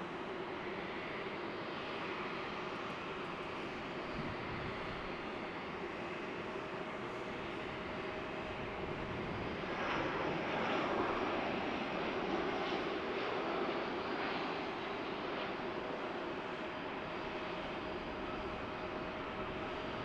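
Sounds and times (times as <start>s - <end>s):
jet airliner taxiing: 0.0s - 20.0s
steady jet engine hum: 0.0s - 20.0s.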